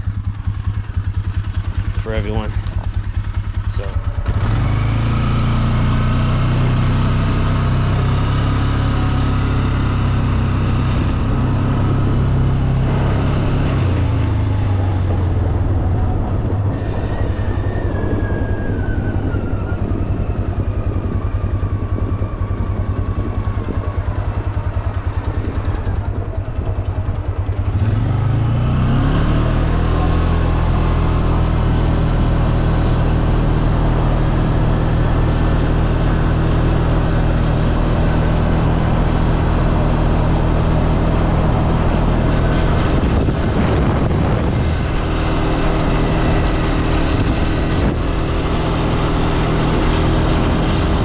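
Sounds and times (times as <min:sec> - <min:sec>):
atv engine running: 0:00.0 - 0:51.0.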